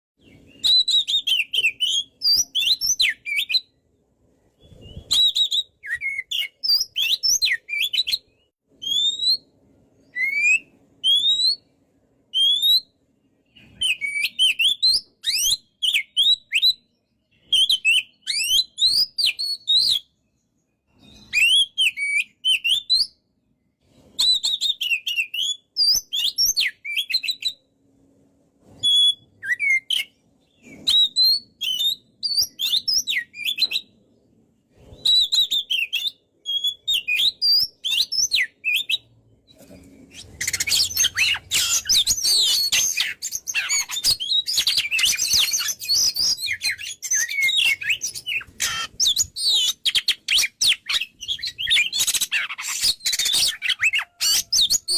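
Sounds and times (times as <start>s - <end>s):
songbird whistling and chirping: 0.2s - 27.7s, 28.6s - 54.9s.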